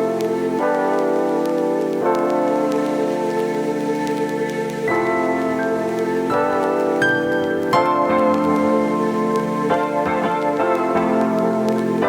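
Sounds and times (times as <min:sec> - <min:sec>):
soft keyboard chords: 0:00.0 - 0:12.0.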